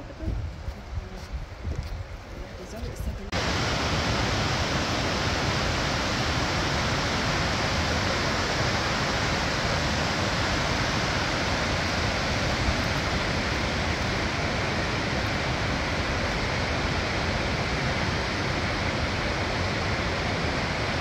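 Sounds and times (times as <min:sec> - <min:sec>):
rushing whitewater: 0:03.3 - 0:21.0.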